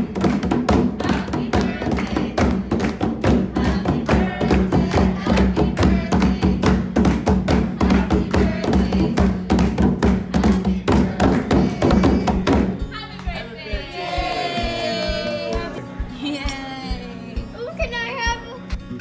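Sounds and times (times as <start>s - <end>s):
hand clapping: 0.0s - 13.5s, 14.5s - 17.2s
djembe hand drums: 0.0s - 18.4s.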